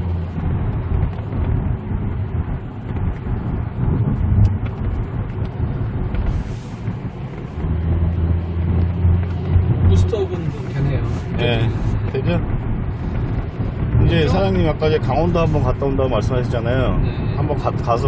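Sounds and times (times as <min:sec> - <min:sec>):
car engine hum: 0:00.0 - 0:18.0
tyre and road rumble: 0:00.0 - 0:18.0.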